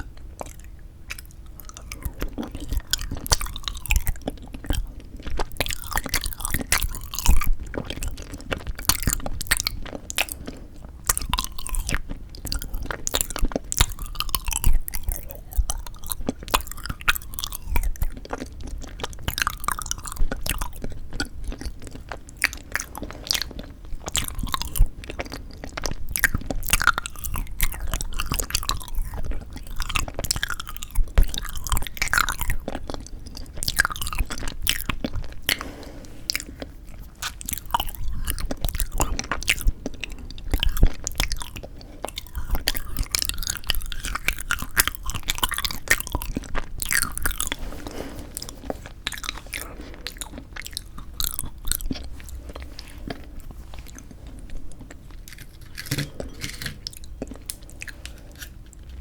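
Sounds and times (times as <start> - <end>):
chewing and biting jelly: 0.0 - 59.0.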